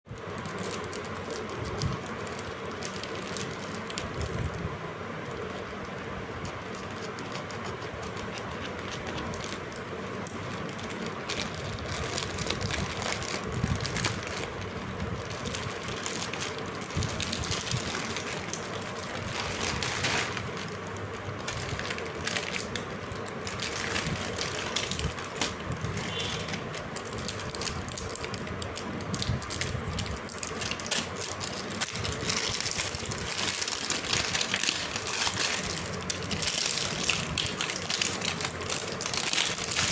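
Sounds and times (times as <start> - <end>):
plastic packaging crinkling: 0.1 - 39.9.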